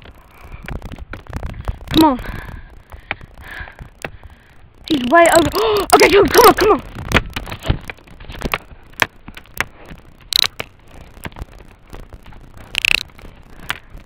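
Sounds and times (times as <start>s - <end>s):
footsteps on wet ground: 0.0s - 14.0s.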